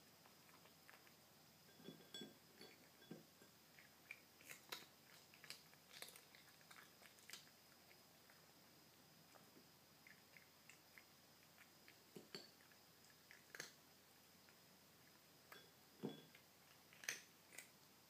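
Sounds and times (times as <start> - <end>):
kitten crunching dry food: 0.2 - 1.2, 1.8 - 15.2, 16.3 - 17.9.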